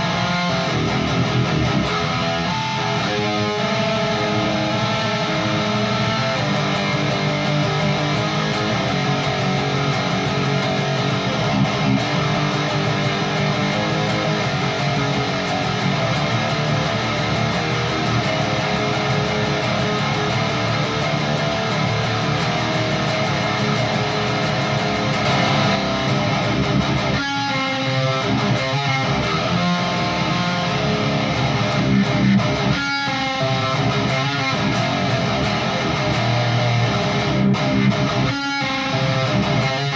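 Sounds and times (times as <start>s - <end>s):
distorted electric guitar riffs: 0.0s - 39.9s.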